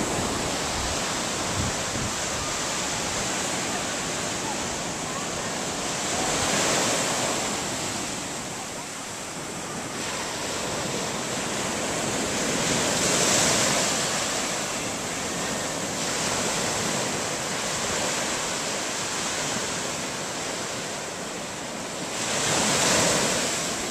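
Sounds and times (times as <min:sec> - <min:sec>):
waves breaking on shore: 0:00.0 - 0:23.9.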